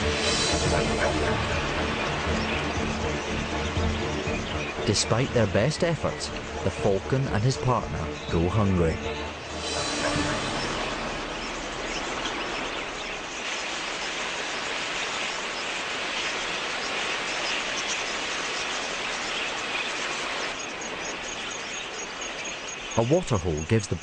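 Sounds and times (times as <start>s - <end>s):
budgerigar flock chirping: 0.0s - 24.0s.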